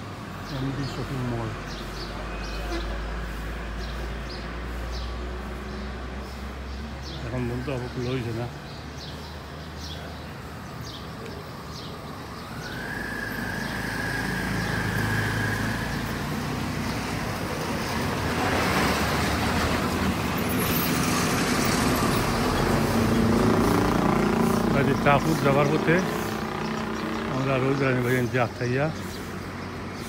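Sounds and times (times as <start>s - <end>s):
road and tyre noise: 0.0s - 30.0s.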